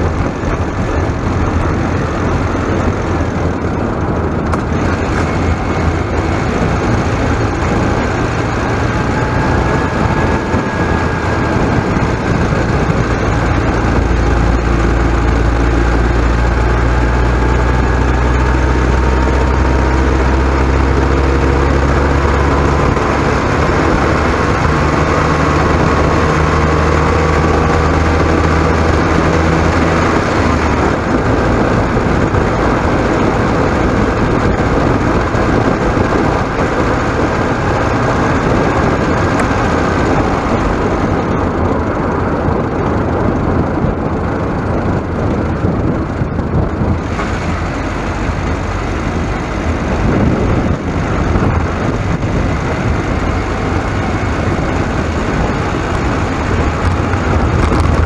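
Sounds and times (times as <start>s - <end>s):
vehicle engine hum: 0.0s - 58.0s
wind and road rushing: 0.0s - 58.0s.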